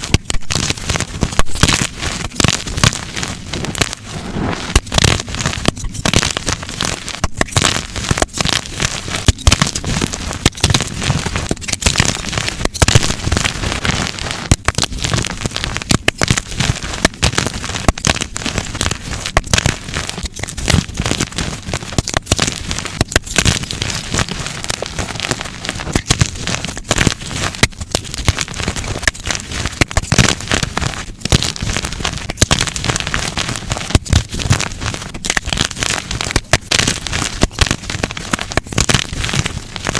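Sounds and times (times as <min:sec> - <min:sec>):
chalk blocks crunching and snapping: 0:00.0 - 0:04.0, 0:04.7 - 0:39.9.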